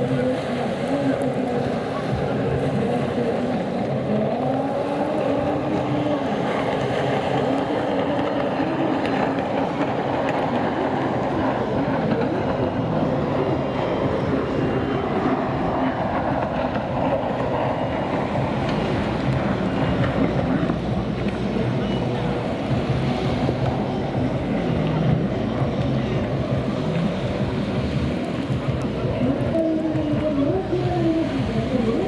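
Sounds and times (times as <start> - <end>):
jet ski engines revving: 0.0 - 32.0.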